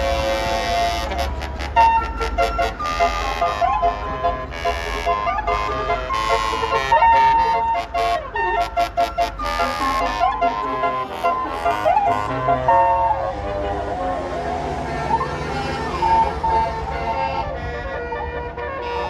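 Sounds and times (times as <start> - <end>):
musical air horn tune: 0.0 - 19.0.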